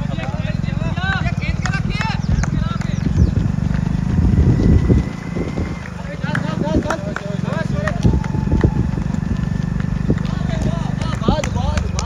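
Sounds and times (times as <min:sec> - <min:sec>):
loud low rumble: 0:00.0 - 0:12.0
running footsteps on pavement: 0:00.0 - 0:12.0.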